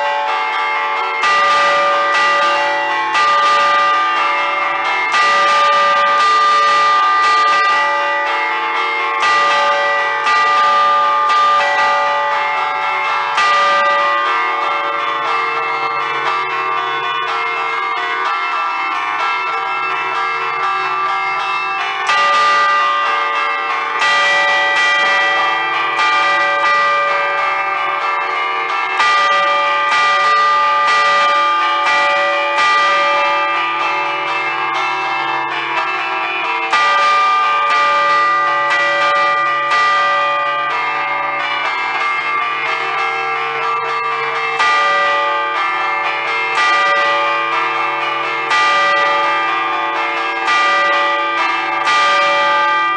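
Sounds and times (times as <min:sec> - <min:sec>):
church bells chimed by hand: 0:00.0 - 0:52.9.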